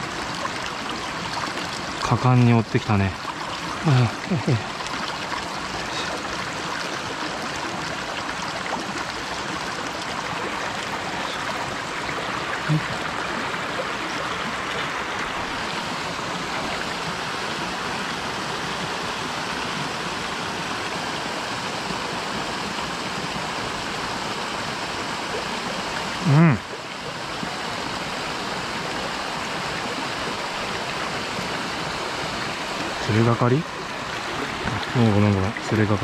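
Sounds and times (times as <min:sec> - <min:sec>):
stream flowing over rocks: 0:00.0 - 0:36.0.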